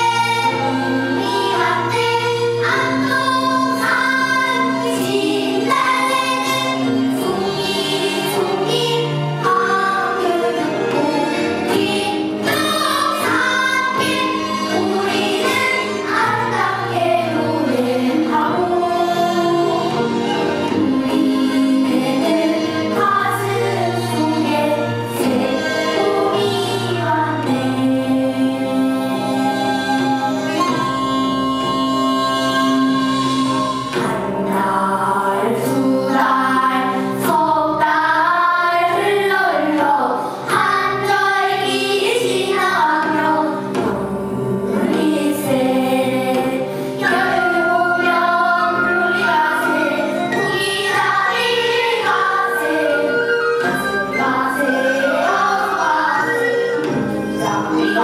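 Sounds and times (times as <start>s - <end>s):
girls singing folk song: 0.0s - 30.6s, 32.7s - 58.0s.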